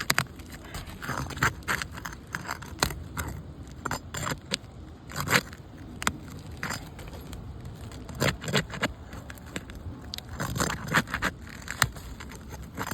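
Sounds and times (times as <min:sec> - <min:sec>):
tools scraping roof shingles: 0:00.0 - 0:12.9.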